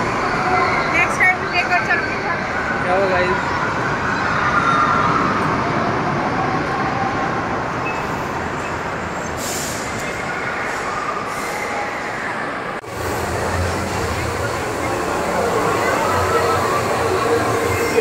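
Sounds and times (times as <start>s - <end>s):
roller coaster wheels rushing on rails: 0.0s - 18.0s.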